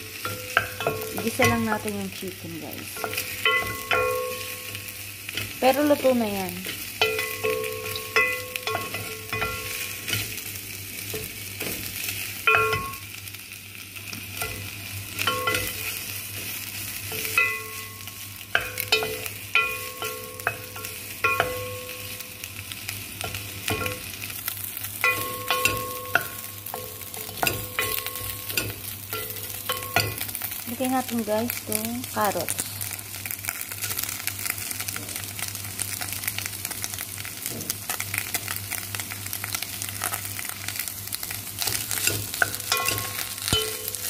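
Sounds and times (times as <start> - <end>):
chicken sizzling in oil: 0.0 - 44.0.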